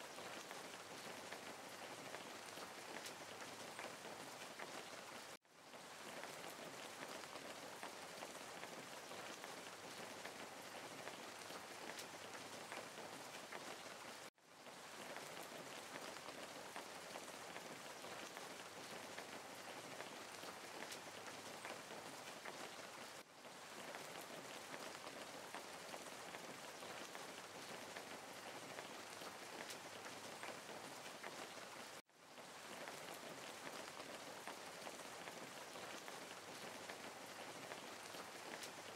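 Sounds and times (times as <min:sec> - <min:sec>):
rain-like hiss with crackle: 0:00.0 - 0:38.9.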